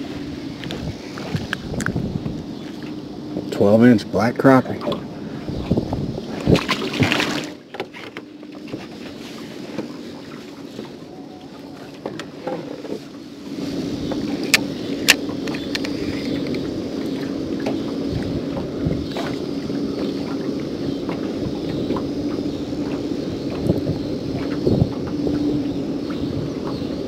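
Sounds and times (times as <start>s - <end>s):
electric trolling motor humming: 0.0s - 27.0s.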